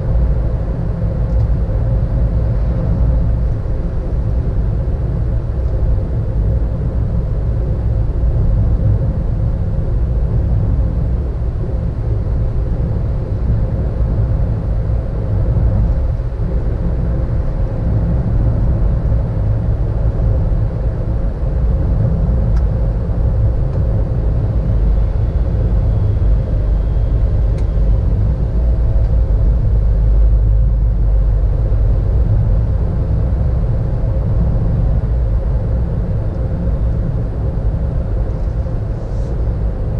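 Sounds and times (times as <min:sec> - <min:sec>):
car engine and tyre road noise: 0:00.0 - 0:39.9.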